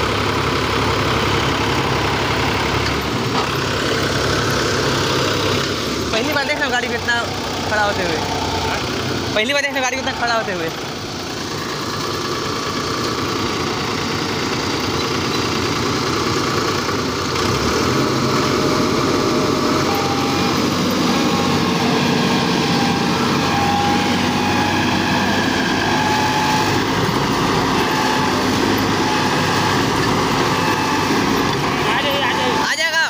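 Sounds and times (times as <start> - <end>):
tractor diesel engine straining: 0.0 - 33.0.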